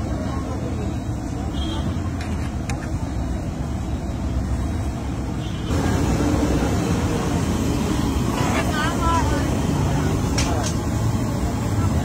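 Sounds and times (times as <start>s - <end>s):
street noise rumble: 0.0s - 12.0s.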